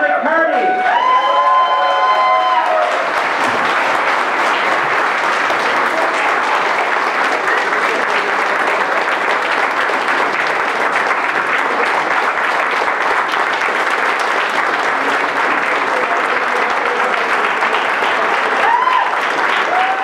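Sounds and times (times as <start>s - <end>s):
crowd applauding: 0.4s - 20.0s.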